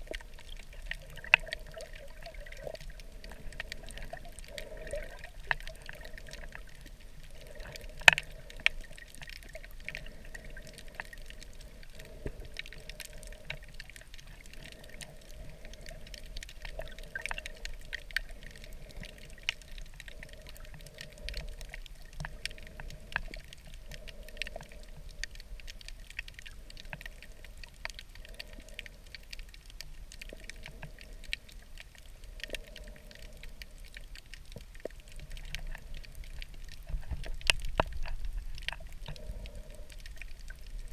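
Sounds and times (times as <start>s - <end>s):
crackle of sharp clicks underwater: 0.0s - 40.9s
muffled wash of water: 0.0s - 40.9s.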